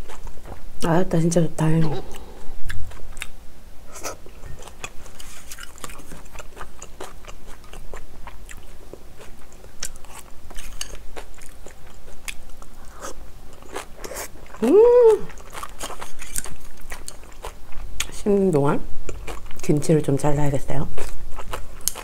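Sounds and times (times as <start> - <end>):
mouth chewing food: 0.0 - 0.9, 1.8 - 18.2, 19.1 - 19.9, 20.8 - 22.0.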